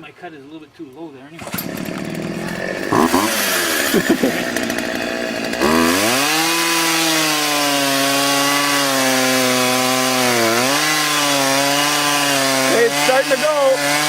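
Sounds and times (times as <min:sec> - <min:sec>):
chainsaw cutting into tree trunk: 0:01.4 - 0:14.0.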